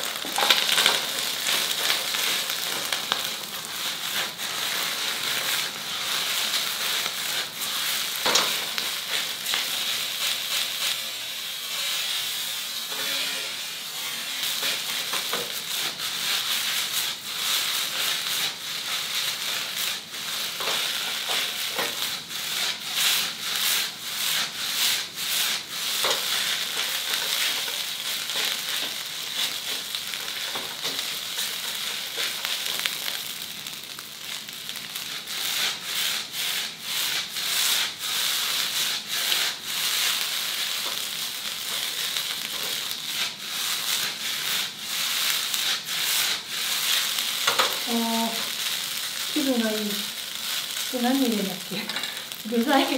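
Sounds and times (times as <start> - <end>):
spatula scraping iron wok: 0.0 - 11.0, 11.7 - 33.2, 35.0 - 52.9
egg and rice sizzling in a wok: 0.0 - 52.9.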